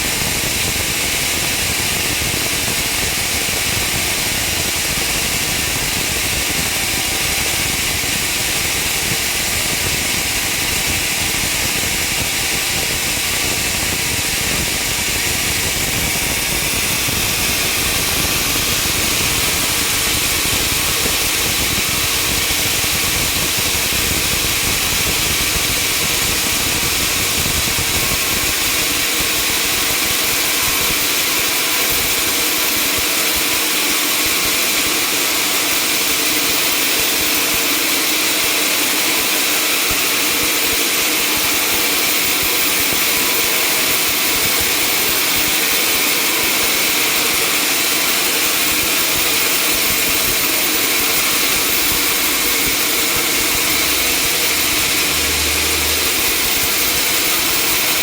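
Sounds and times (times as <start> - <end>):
sawmill machinery running: 0.2 - 58.0.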